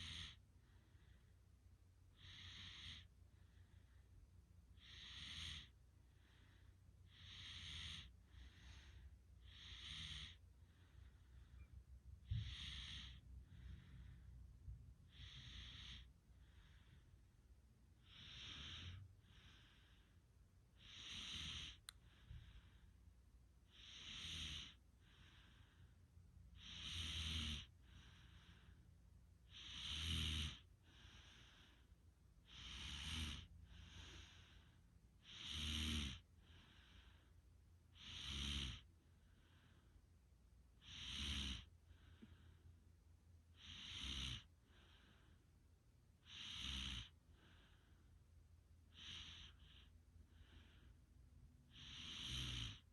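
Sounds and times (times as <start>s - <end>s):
soft snoring: 0.0s - 1.3s, 2.1s - 4.1s, 4.7s - 14.4s, 15.1s - 17.1s, 18.0s - 22.9s, 23.6s - 28.8s, 29.4s - 37.3s, 37.9s - 40.0s, 40.8s - 42.7s, 43.5s - 45.4s, 46.2s - 48.1s, 48.9s - 51.0s, 51.7s - 52.9s.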